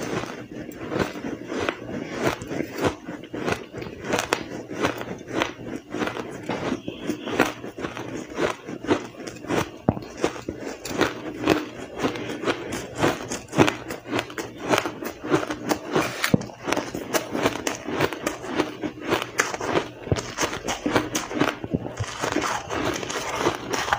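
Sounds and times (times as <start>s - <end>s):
chewing crushed ice: 0.0s - 23.9s.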